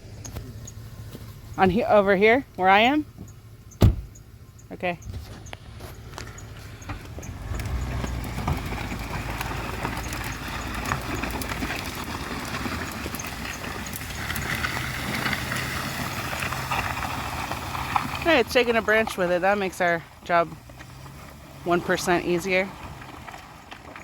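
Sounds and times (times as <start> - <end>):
branches scraping along road: 0.0 - 24.0
vehicle engine running: 0.0 - 24.0.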